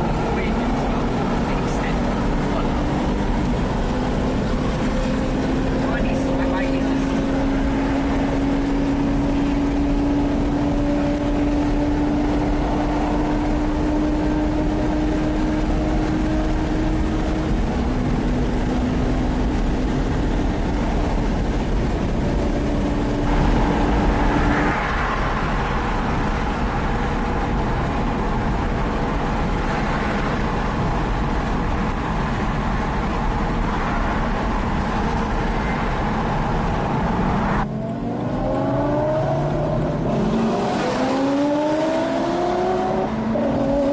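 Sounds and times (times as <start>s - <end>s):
car engine drone: 0.0s - 43.9s
road and tyre noise: 0.0s - 43.9s.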